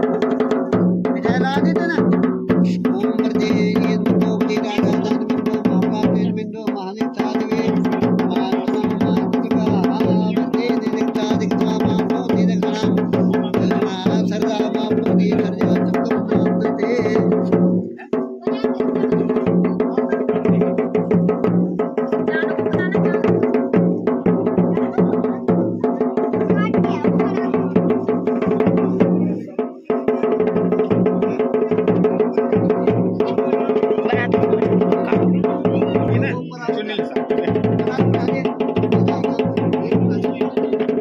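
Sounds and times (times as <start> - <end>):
music with drums and percussion: 0.0 - 41.0.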